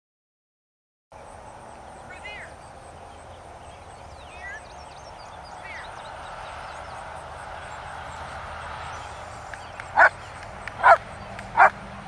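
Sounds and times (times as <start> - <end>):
steady outdoor hiss: 1.1 - 12.0
sweeping bird chirps: 1.7 - 11.6.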